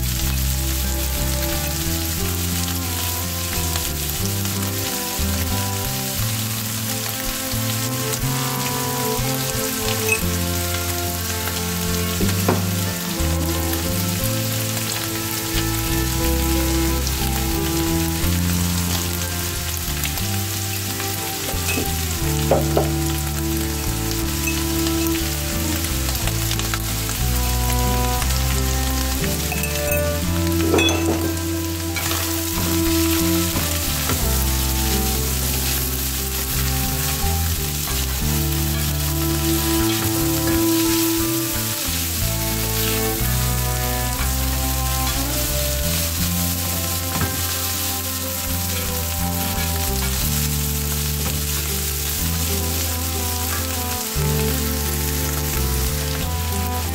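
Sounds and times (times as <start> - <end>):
background music: 0.0 - 56.9
food sizzling in a pan: 0.0 - 56.9.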